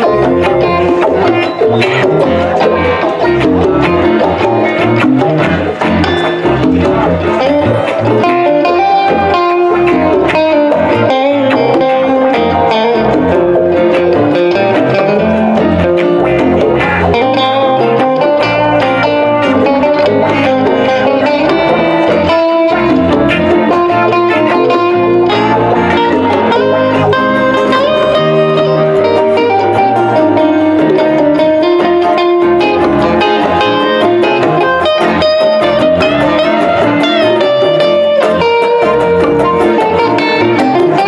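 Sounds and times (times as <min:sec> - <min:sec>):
electric guitars: 0:00.0 - 0:41.0
live rock band playing: 0:00.0 - 0:41.0.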